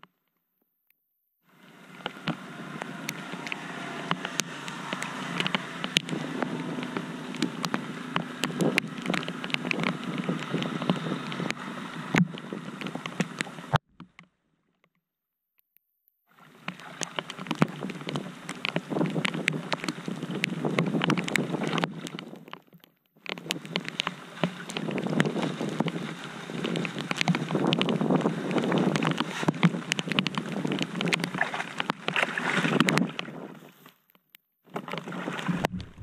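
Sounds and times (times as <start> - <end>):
floodwater splashing: 1.5 - 13.8, 16.3 - 22.4, 23.3 - 33.5, 34.7 - 36.0
rain on a flooded street: 1.6 - 13.8, 16.5 - 33.2.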